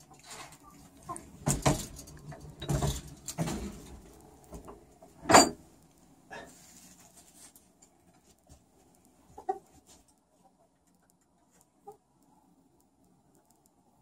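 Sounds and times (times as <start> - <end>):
chickens shuffling and rustling: 0.0 - 12.0.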